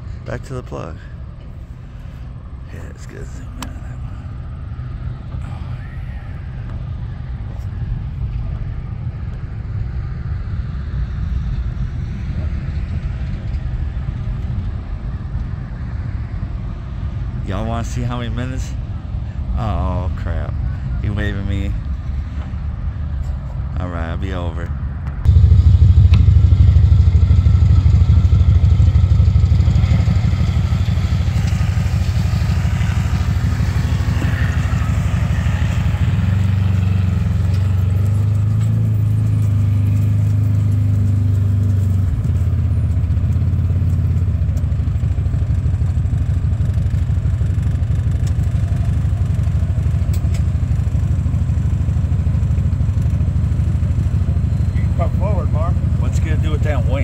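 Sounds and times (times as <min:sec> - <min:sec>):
combine engine droning: 0:00.0 - 0:57.0.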